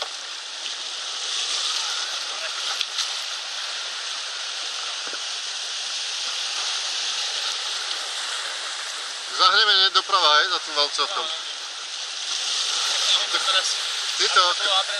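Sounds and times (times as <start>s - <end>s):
rushing whitewater: 0.0s - 14.9s.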